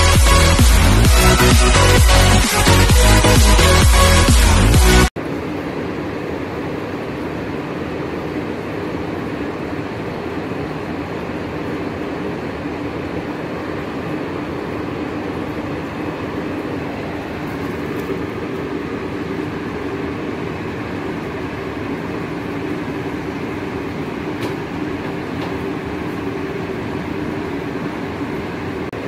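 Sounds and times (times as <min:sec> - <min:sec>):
mechanical drone with low hum: 0:00.0 - 0:29.0.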